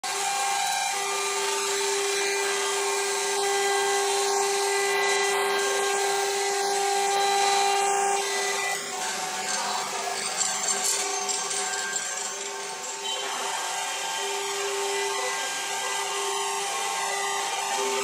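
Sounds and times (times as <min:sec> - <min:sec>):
router spindle high whine: 0:00.0 - 0:18.0.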